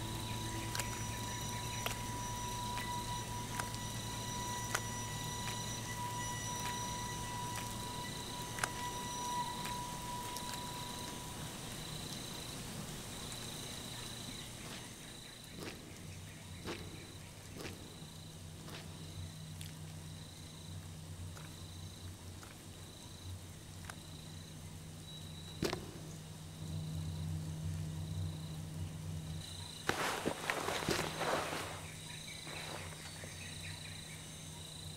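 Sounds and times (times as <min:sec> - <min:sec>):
crackling rustles: 0:00.0 - 0:26.5, 0:28.8 - 0:34.4
cricket chirping: 0:00.0 - 0:34.9
low steady hum: 0:00.0 - 0:34.9.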